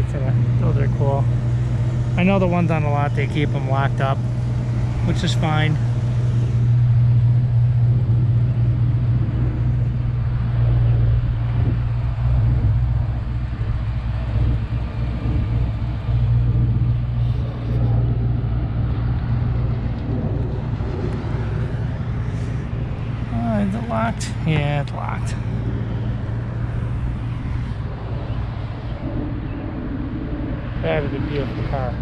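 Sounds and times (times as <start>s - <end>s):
engine idling: 0.0s - 32.0s
faint outdoor traffic: 0.0s - 32.0s.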